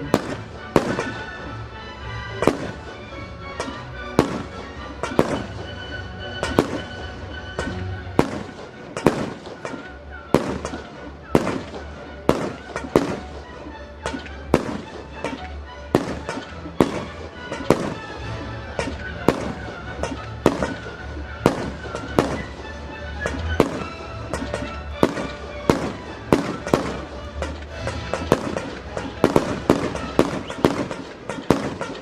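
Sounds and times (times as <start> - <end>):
fireworks bangs: 0.0 - 1.5, 2.3 - 32.0.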